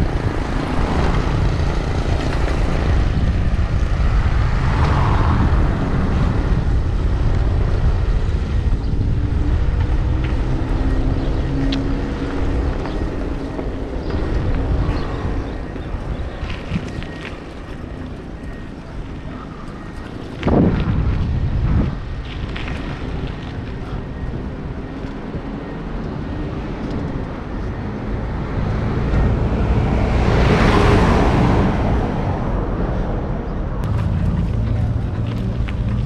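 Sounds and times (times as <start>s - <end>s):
vehicle passing: 0.0s - 36.0s
wind rumbling on microphone: 0.0s - 36.0s.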